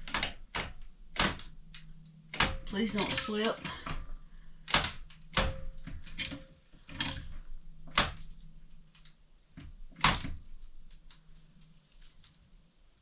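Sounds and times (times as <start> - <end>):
wood creaking and cracking: 0.0 - 13.0.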